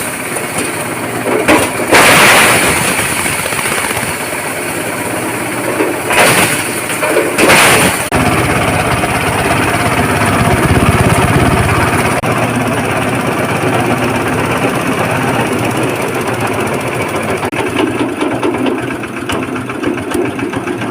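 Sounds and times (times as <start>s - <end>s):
stone pulverizing machine running: 0.0s - 20.9s.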